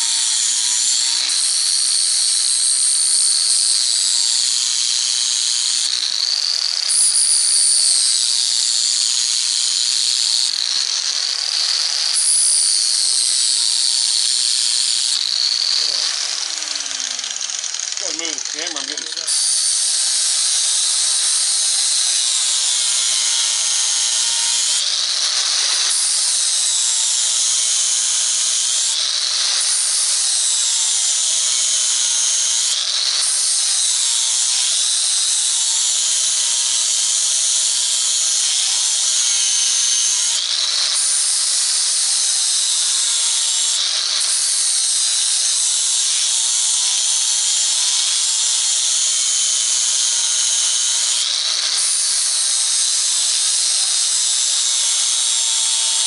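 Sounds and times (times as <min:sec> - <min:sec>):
power grinder grinding metal: 0:00.0 - 0:56.0.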